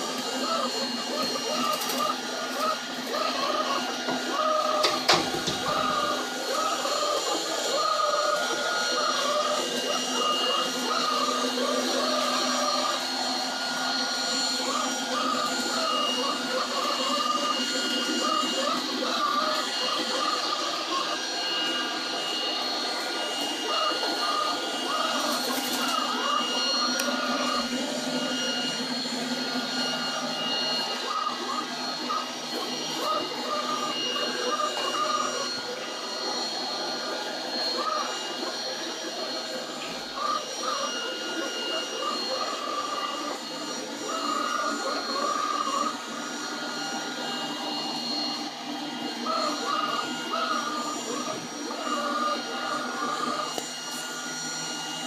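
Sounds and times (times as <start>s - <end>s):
high-pitched tones: 0.0s - 55.0s
robot vacuum cleaner running: 0.0s - 55.0s.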